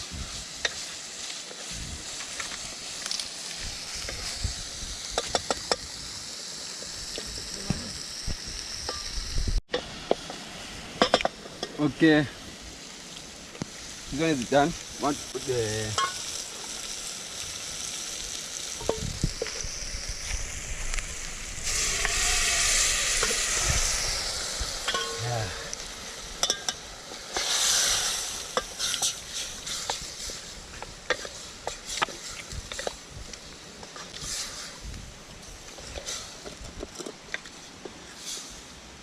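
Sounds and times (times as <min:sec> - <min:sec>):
meat sizzling in hot oil: 0:00.0 - 0:38.7.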